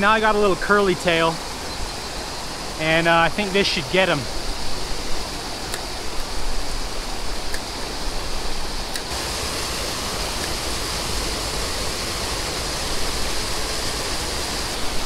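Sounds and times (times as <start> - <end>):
water rushing over spillway: 0.0 - 15.0.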